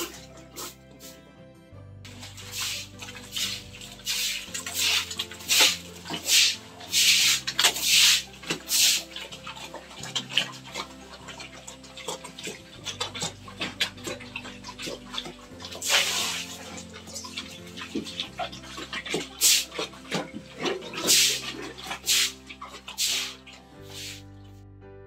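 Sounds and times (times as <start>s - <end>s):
pig slurping and chomping: 0.0s - 1.2s, 2.1s - 24.3s.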